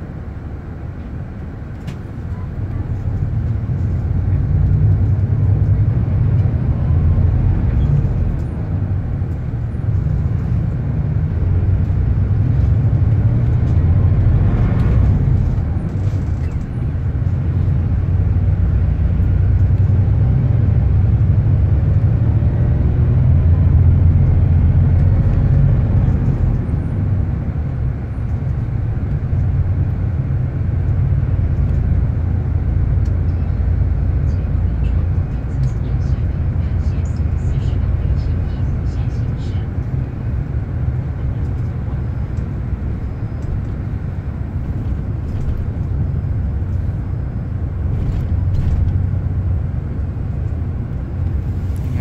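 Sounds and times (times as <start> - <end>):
bus engine and road rumble: 0.0 - 52.0.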